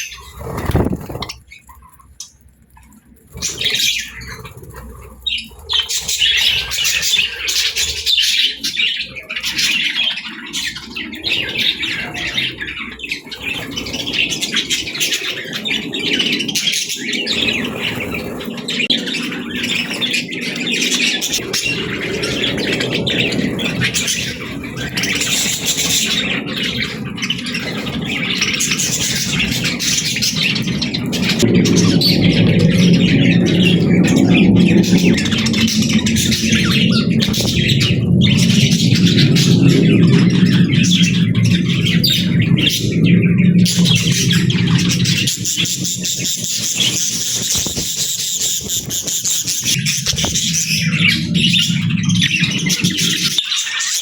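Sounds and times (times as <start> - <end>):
parrots chattering and squawking: 0.0 - 54.0.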